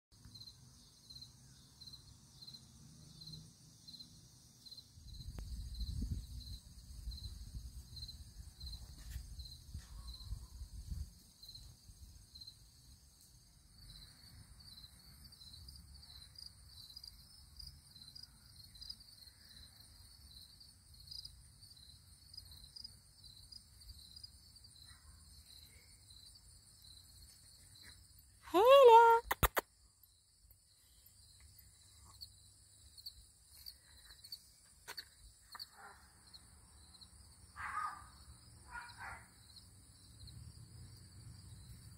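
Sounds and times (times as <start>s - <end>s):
high insect chirp: 0.2s - 41.9s
dense insect chirping: 0.3s - 28.8s, 29.7s - 41.9s.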